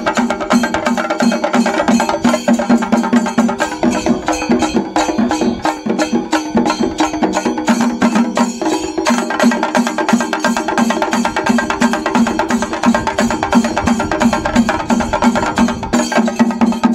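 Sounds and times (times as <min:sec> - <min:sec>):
drums beaten with sticks: 0:00.0 - 0:16.9
hand cymbals clashing: 0:00.0 - 0:16.9.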